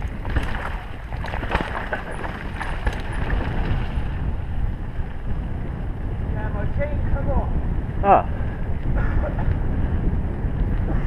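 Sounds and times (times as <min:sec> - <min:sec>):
bike knocking and rattling: 0:00.0 - 0:11.0
bike tyres rolling over dirt: 0:00.0 - 0:11.0
wind rushing over microphone: 0:00.0 - 0:11.0.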